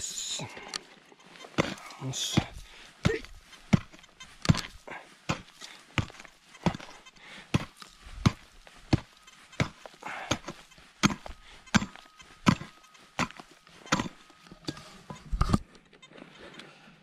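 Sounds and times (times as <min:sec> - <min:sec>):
digging tool striking hard soil: 0:01.5 - 0:15.6.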